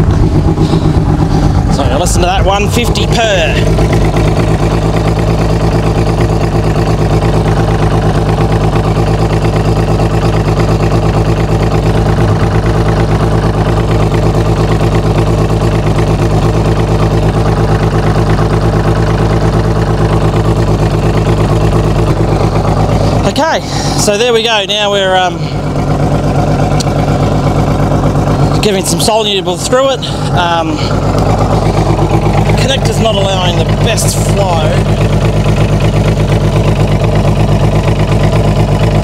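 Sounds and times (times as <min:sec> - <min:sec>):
outboard motor idling: 0:00.0 - 0:39.0.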